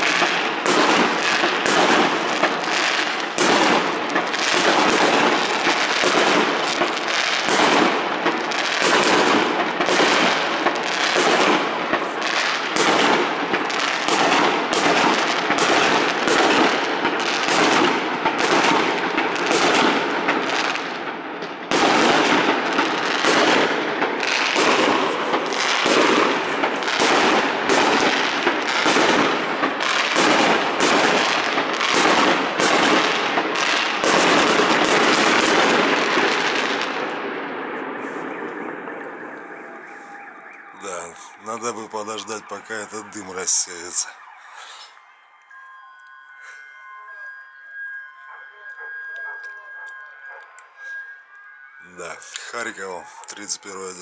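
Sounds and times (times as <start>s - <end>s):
fireworks bangs and crackles: 0.0s - 45.6s, 46.4s - 54.0s.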